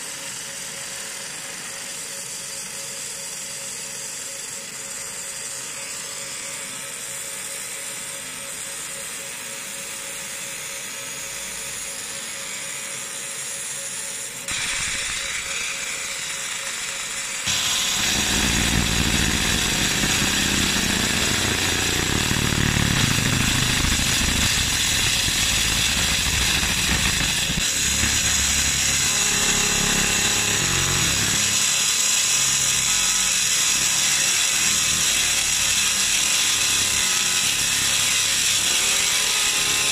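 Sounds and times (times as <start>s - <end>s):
laser engraver hissing buzz: 2.4s - 34.5s.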